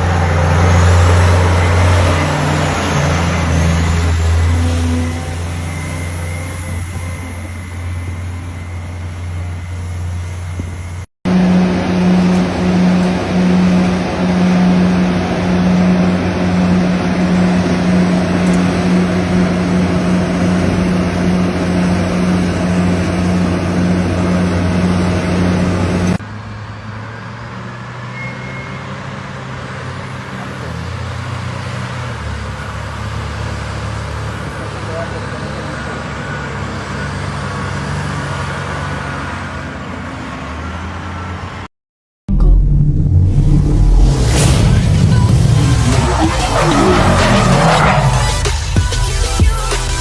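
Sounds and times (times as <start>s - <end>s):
diesel engines droning: 0.0s - 41.7s, 42.3s - 50.0s.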